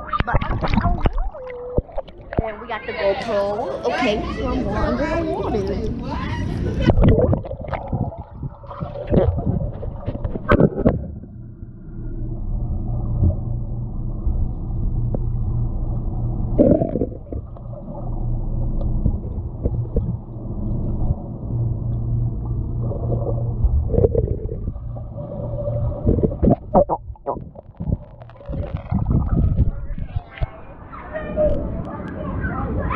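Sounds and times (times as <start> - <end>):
underwater swishes: 0.0 - 3.8, 4.4 - 32.9
underwater low hum and rumble: 0.0 - 32.9.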